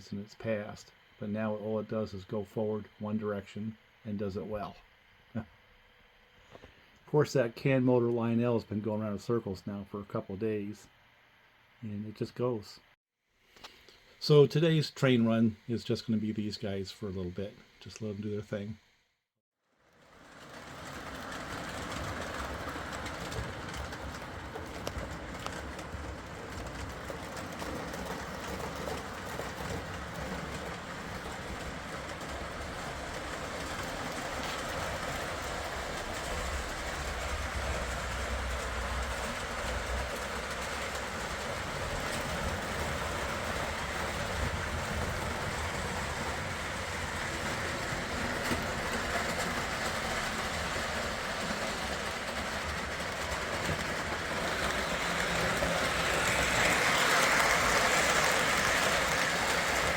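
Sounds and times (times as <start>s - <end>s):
model trains running on rails: 0.0s - 5.4s, 6.5s - 10.9s, 14.2s - 18.8s, 19.8s - 59.9s.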